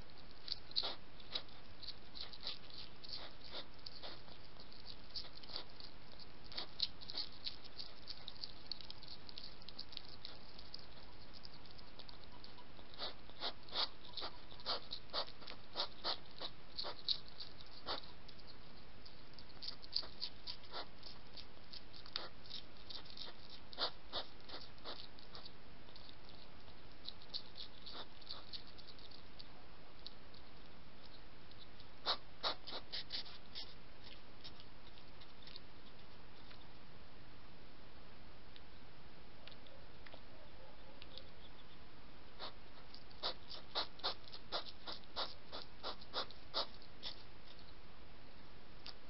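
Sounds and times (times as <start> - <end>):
hedgehogs crunching kibble: 0.0 - 36.6, 42.4 - 47.7.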